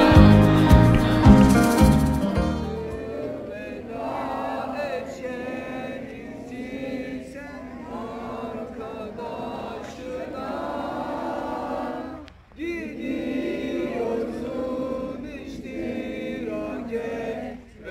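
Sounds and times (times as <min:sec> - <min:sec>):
group of boys singing a march: 0:02.7 - 0:17.9.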